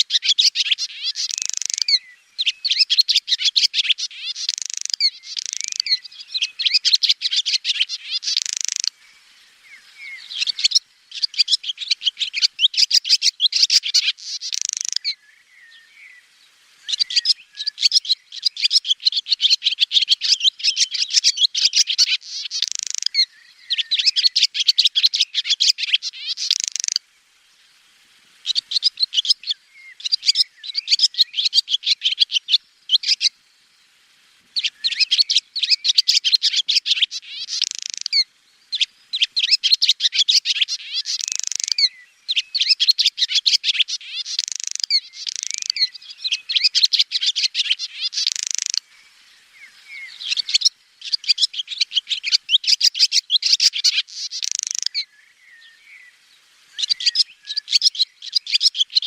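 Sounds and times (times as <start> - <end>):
swallow twittering: 0.0 - 16.2, 16.8 - 27.0, 28.4 - 33.4, 34.6 - 59.0.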